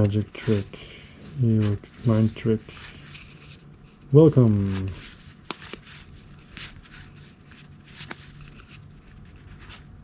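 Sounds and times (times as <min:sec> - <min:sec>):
cards sliding: 0:00.0 - 0:09.9.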